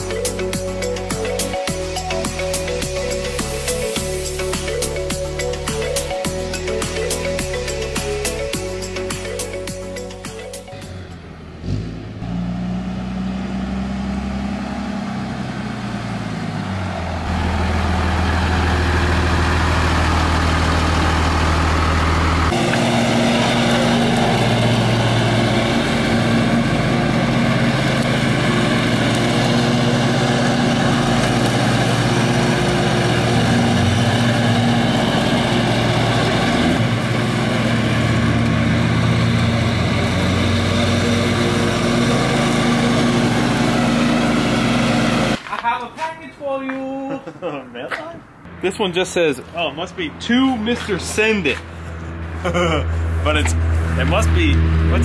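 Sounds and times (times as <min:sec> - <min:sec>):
pickup truck engine running: 0:00.0 - 0:45.4
riding lawn mower engine: 0:00.0 - 0:45.6, 0:48.4 - 0:55.0.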